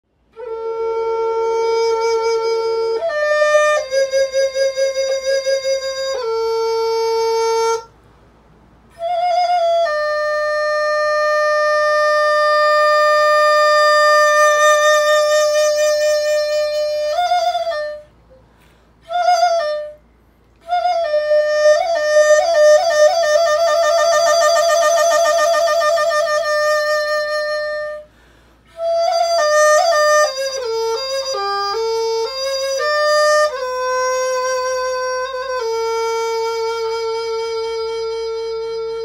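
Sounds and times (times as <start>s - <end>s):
instrument playing slow melody: 0.3s - 7.9s, 8.8s - 18.4s, 19.0s - 28.1s, 28.7s - 39.0s.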